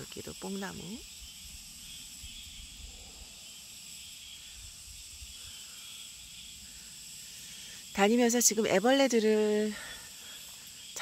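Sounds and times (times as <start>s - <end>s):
insects singing shrilly: 0.0s - 11.0s.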